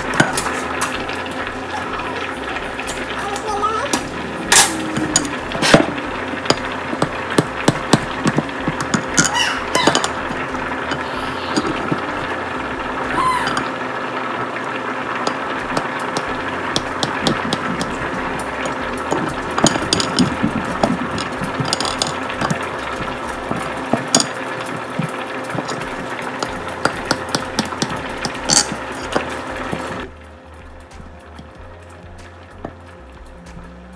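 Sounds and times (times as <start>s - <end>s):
steady mechanical hum: 0.0s - 33.9s.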